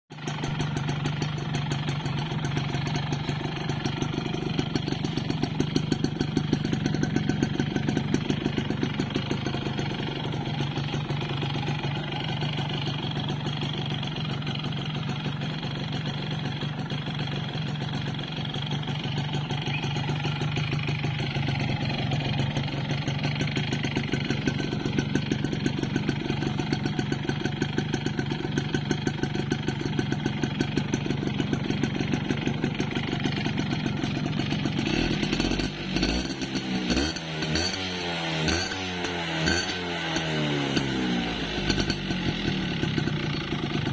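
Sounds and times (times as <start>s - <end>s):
motorcycle engine idling with rattle: 0.1s - 43.9s.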